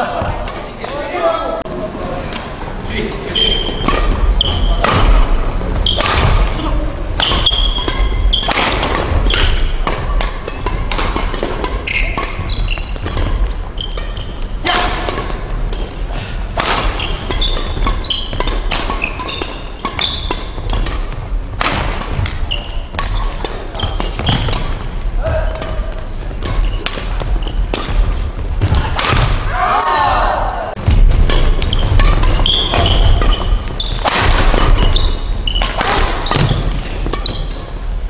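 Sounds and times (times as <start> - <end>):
rackets hitting shuttlecock: 2.3 - 29.6, 30.7 - 37.8
sneakers squeaking on floor: 3.0 - 30.0, 30.8 - 38.0.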